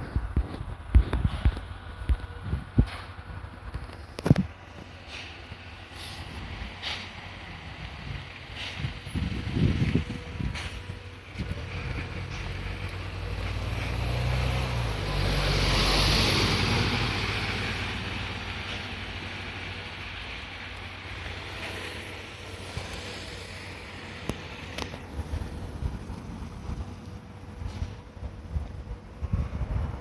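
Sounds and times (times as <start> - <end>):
steam train rumble and hiss: 0.0 - 30.0.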